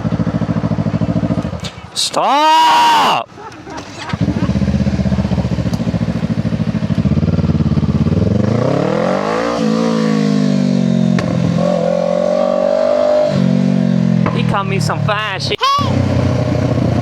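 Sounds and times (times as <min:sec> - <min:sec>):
motorcycle engine revving: 0:00.0 - 0:02.0, 0:03.5 - 0:17.0.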